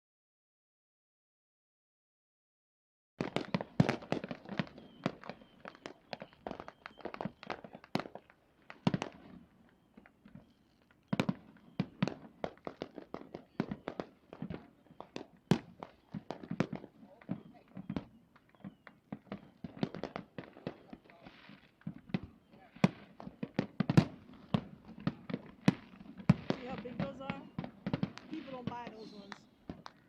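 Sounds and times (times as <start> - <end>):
fireworks bangs and crackling: 3.2 - 30.0
fireworks booms: 3.2 - 30.0.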